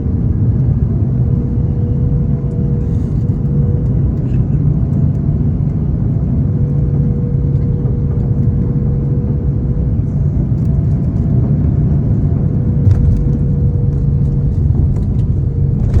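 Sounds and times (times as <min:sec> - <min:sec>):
jet airliner rumble: 0:00.0 - 0:16.0.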